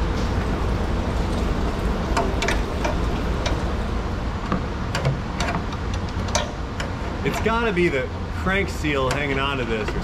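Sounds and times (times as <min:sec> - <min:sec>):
background hum: 0:00.0 - 0:10.0.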